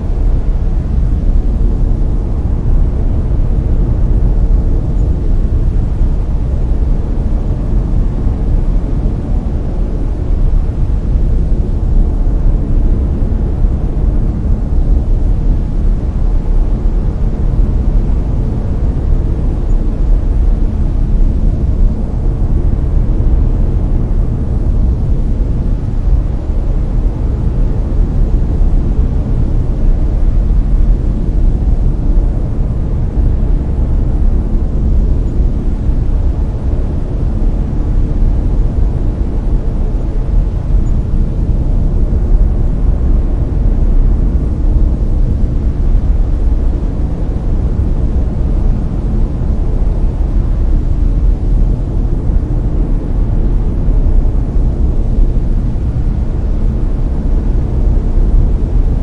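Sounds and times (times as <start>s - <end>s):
deep brown noise hiss: 0.0s - 59.0s.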